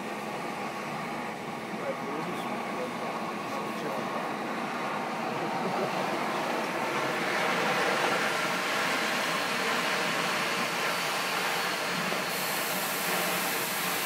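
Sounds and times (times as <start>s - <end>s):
loud hiss of gas rushing: 0.0s - 14.0s.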